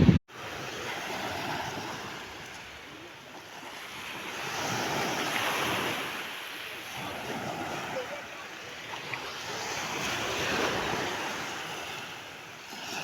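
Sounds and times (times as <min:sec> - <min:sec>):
sea waves washing onto shore: 0:00.0 - 0:13.0.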